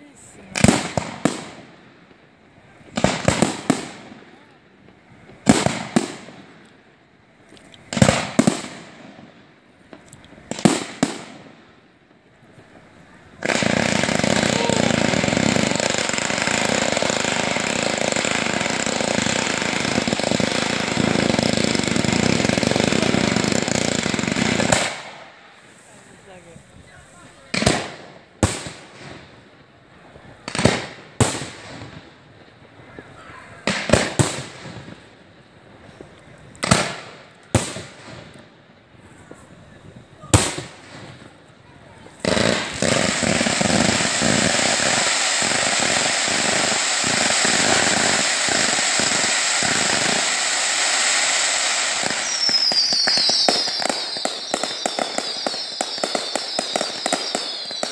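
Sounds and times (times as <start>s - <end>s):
fireworks bangs with echo: 0.0s - 1.8s, 2.8s - 6.6s, 7.9s - 11.8s, 12.5s - 29.4s, 30.0s - 35.1s, 35.8s - 57.9s.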